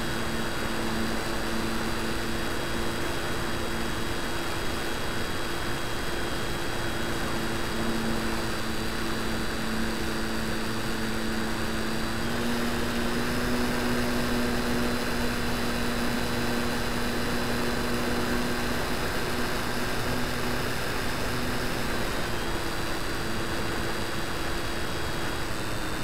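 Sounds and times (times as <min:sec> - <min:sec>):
model plane motor and propeller: 0:00.0 - 0:26.0.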